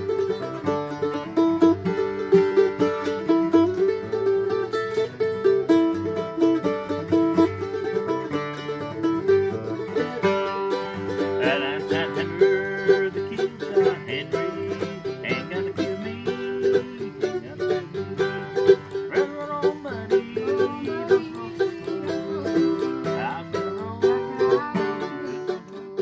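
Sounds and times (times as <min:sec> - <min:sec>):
country music with picked strings: 0:00.0 - 0:26.0.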